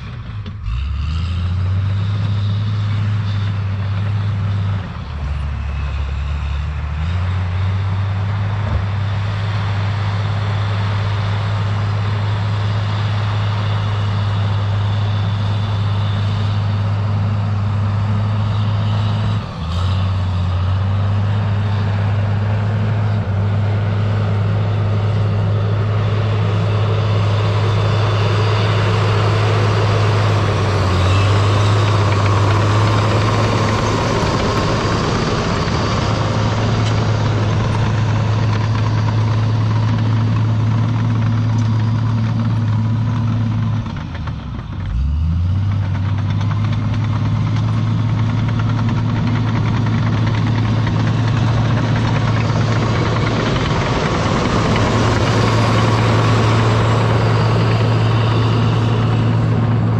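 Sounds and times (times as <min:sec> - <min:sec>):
diesel engine of earthmover: 0:00.0 - 0:59.9.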